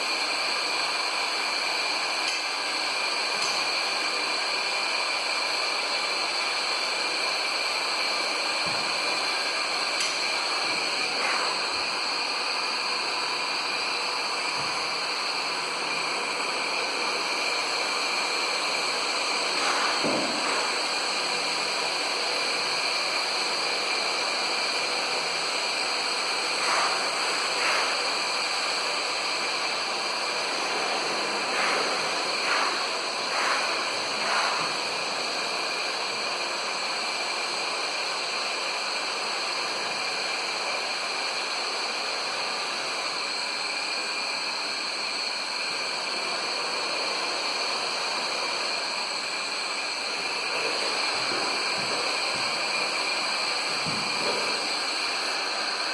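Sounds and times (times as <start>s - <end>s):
welding arc hiss and whine: 0.0s - 55.9s.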